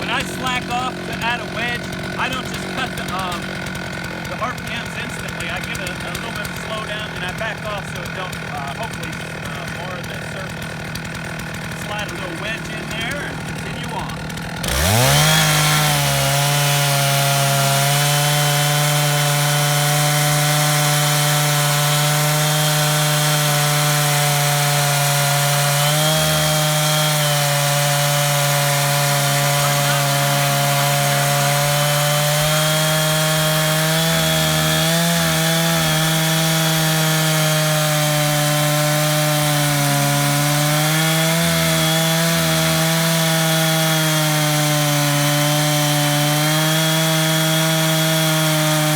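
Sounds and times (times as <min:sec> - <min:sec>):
chainsaw cutting through log: 0:00.0 - 0:48.9.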